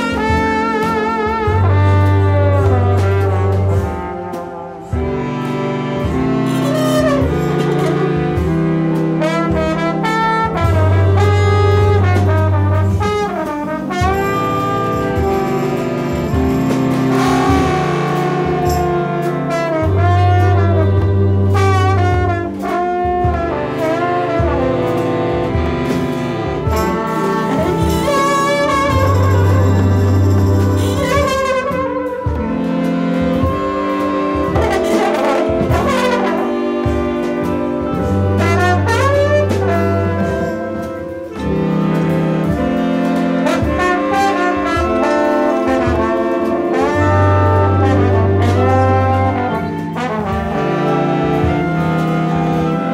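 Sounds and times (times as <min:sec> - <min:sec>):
large jazz ensemble playing: 0:00.0 - 0:52.9
muted trombone bending notes: 0:00.0 - 0:52.9.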